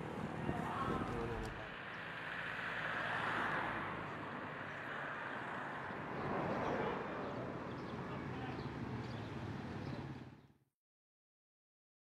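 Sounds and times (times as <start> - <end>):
outdoor street ambience: 0.0 - 10.7.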